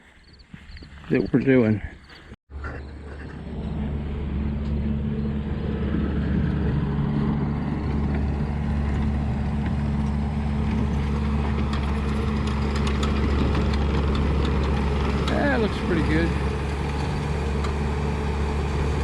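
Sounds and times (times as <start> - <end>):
work machine engine running: 2.9 - 19.0.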